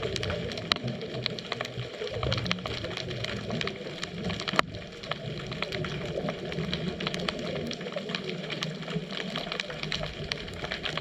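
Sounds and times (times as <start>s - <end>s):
clicks and crackles: 0.0s - 11.0s
underwater low rumble: 0.0s - 11.0s.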